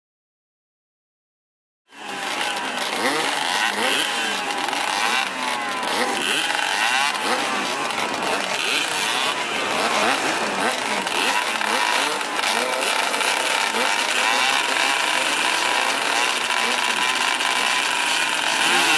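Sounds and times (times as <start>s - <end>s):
motorcycle engines revving: 1.9s - 18.9s.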